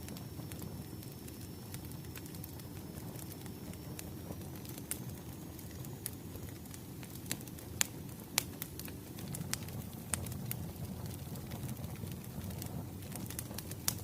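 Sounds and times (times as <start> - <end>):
burning firewood popping: 0.0 - 14.0
wood fire crackling: 0.0 - 14.0.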